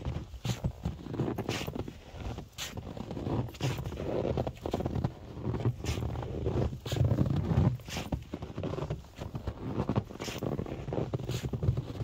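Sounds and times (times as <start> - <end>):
footsteps crunching in snow: 0.0 - 12.0.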